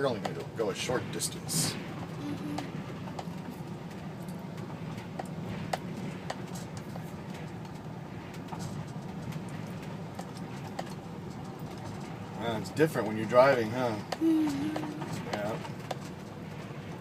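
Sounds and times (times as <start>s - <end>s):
road noise: 0.0s - 17.0s
truck engine hum: 0.0s - 17.0s.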